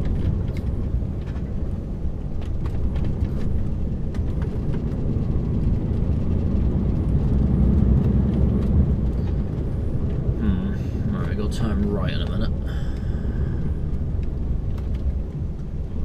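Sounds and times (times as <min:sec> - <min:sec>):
lorry engine and road noise: 0:00.0 - 0:16.0.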